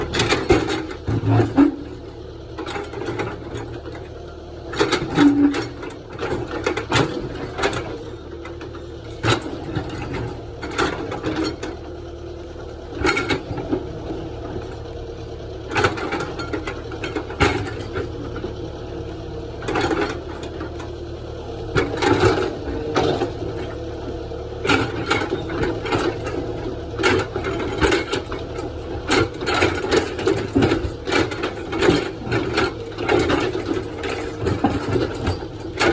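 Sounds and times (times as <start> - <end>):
excavator bucket metallic clanks: 0.0 - 35.9
excavator engine running: 0.0 - 35.9.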